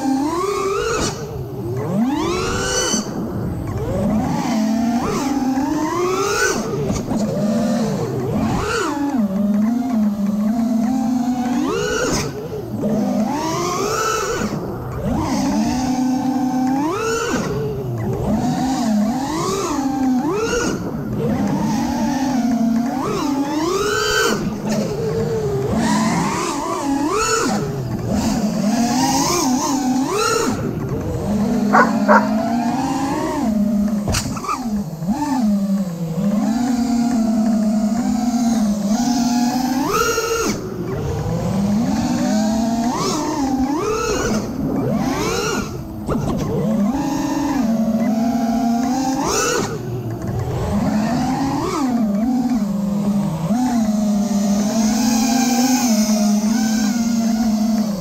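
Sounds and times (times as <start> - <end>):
quadcopter motors buzzing: 0.0 - 58.0.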